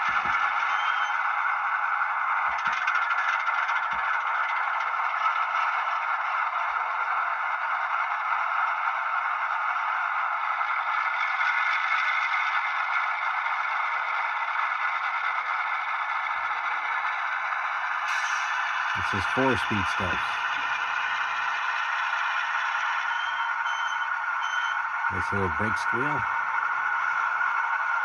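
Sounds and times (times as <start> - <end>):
model diesel engine sound from speaker: 0.0 - 28.0.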